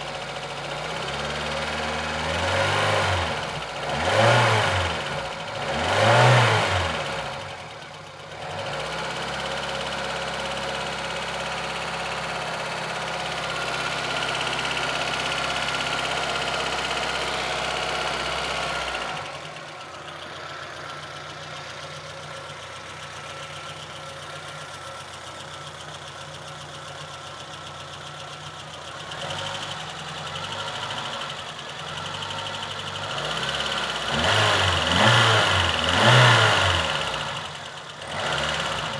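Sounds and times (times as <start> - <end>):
car engine revving and idling: 0.0 - 38.9
engine knock: 7.0 - 38.9.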